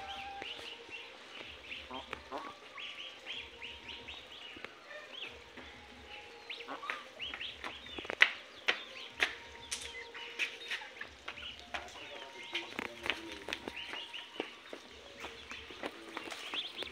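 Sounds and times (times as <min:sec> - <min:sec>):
goslings peeping: 0:00.0 - 0:16.9.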